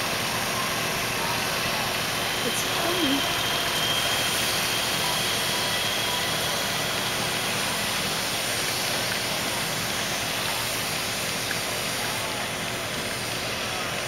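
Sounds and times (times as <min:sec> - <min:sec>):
small train rolling on track: 0:00.0 - 0:14.0
steam hissing from locomotive: 0:00.0 - 0:14.0.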